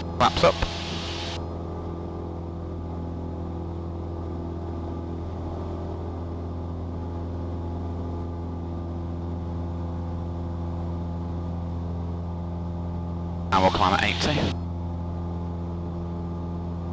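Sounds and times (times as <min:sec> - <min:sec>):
airplane engine droning: 0:00.0 - 0:16.9.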